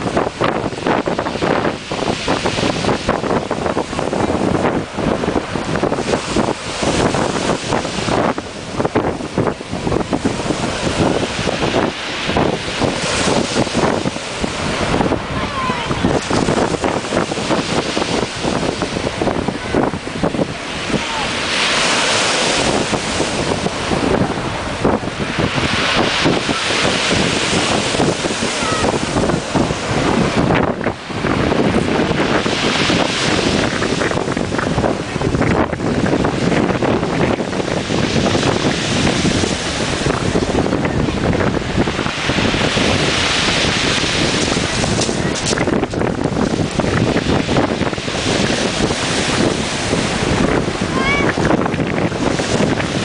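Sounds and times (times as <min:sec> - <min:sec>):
strong wind buffeting microphone: 0:00.0 - 0:53.0
surf and breaking waves: 0:00.0 - 0:53.0.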